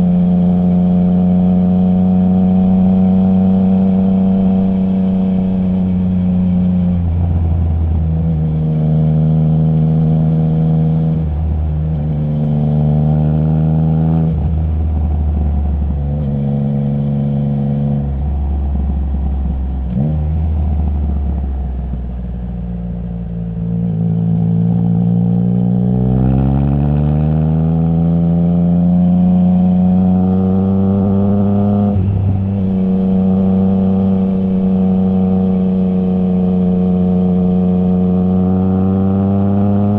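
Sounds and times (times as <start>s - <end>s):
motorcycle engine revving: 0.0s - 22.2s, 23.2s - 39.9s.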